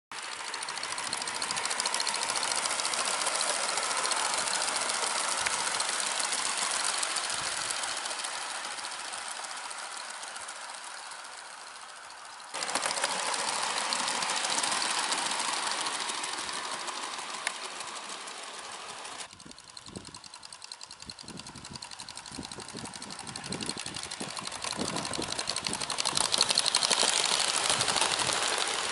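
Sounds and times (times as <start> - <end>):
model train wheels clattering: 0.2 - 28.9.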